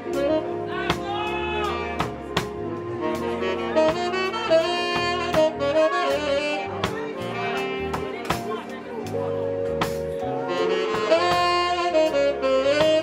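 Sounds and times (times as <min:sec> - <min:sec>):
keyboard chords: 0:00.0 - 0:13.0
low bass line: 0:00.0 - 0:13.0
saxophone melody: 0:00.0 - 0:13.0.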